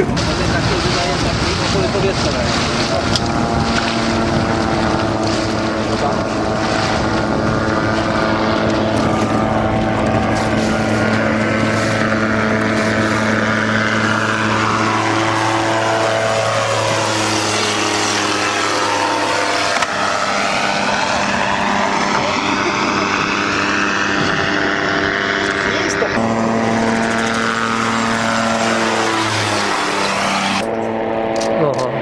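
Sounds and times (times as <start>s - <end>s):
boat motor humming: 0.0s - 32.0s
gyroplane engine and propeller: 0.0s - 32.0s.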